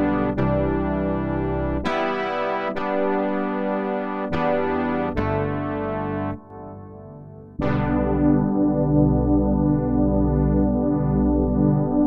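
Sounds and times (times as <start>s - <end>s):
synthesizer chords: 0.0s - 12.0s.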